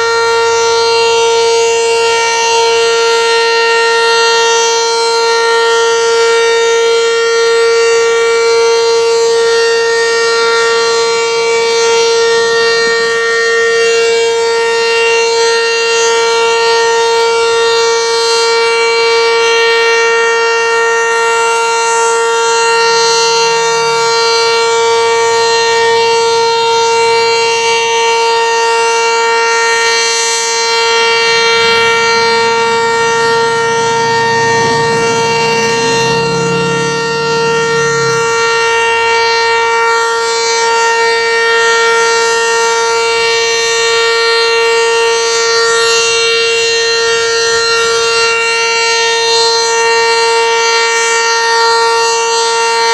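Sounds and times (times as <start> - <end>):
warning siren steady high pitch: 0.0 - 52.9.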